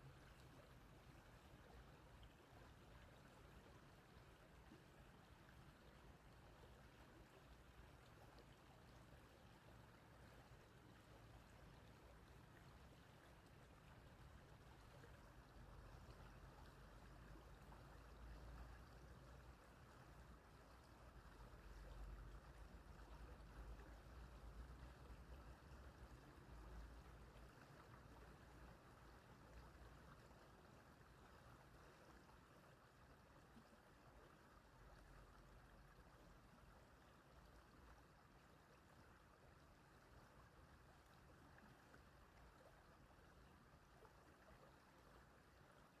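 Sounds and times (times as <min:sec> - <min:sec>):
stream running over stones: 0:00.0 - 0:46.0.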